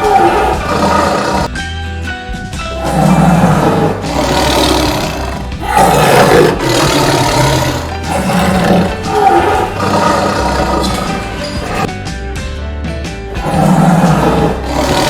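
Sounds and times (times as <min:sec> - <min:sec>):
tiger roaring: 0:00.0 - 0:01.5, 0:02.8 - 0:11.9, 0:13.4 - 0:15.0
background music: 0:00.0 - 0:15.0.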